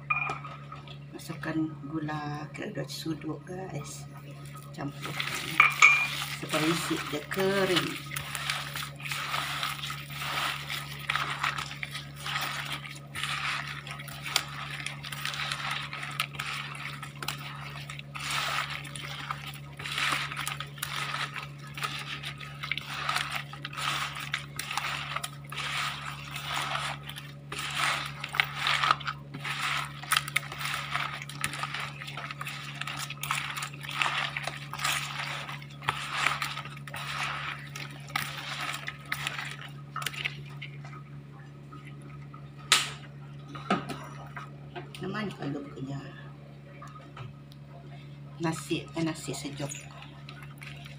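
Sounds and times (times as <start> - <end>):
steady low hum: 0.0 - 50.9
wet squishing and gritty crunching: 3.5 - 46.2, 46.8 - 50.9.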